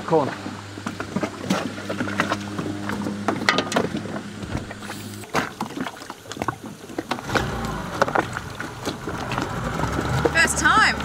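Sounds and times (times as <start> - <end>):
outboard motor starting and idling: 0.0 - 11.0.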